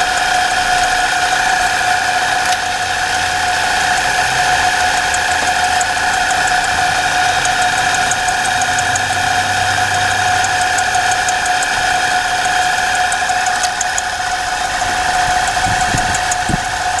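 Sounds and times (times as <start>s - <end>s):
car engine idling: 0.0s - 17.0s
drive belt squealing: 0.0s - 17.0s.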